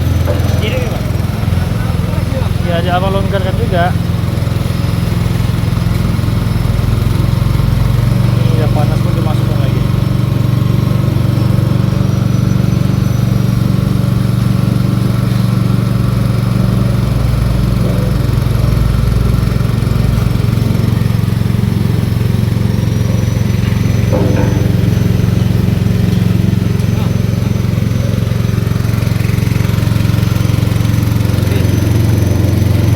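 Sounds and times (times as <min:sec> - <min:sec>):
screw press machine drone: 0:00.0 - 0:32.9.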